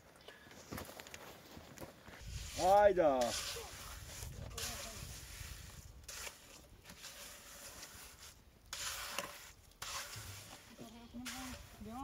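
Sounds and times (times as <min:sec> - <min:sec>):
trowel scraping wet cement: 0:02.2 - 0:12.0.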